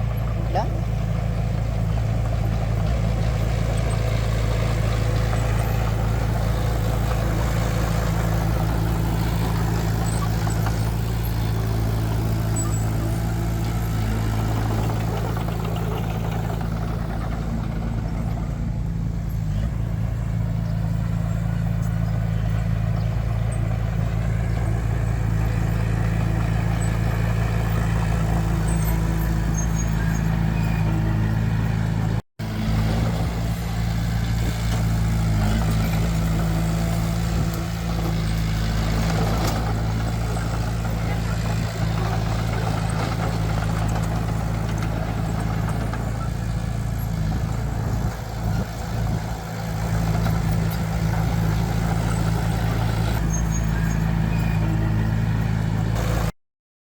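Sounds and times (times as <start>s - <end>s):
heavy diesel engine humming: 0.0s - 56.4s.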